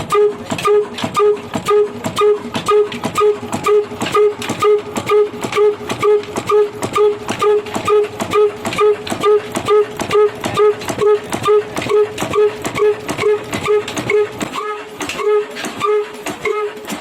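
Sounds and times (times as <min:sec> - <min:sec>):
short tone on each beat: 0:00.0 - 0:16.0
diesel engine running: 0:00.0 - 0:17.0.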